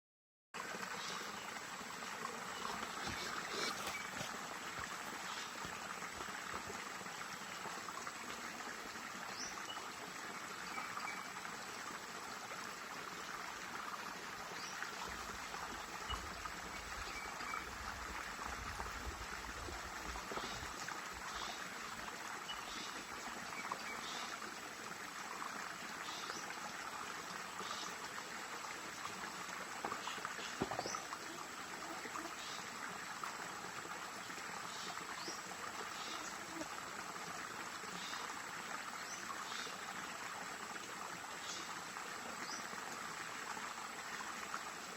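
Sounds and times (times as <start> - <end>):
river water flowing: 0.6 - 44.9.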